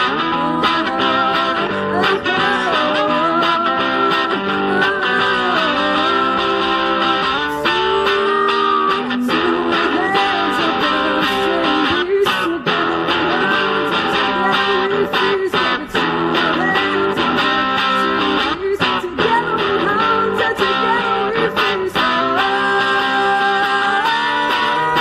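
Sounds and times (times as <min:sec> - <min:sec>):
electric guitar through amplifier: 0:00.0 - 0:25.0.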